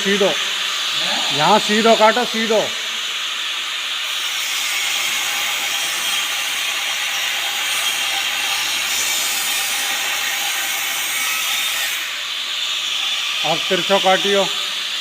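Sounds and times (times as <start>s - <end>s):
gas cutting torch hissing: 0.0s - 15.0s.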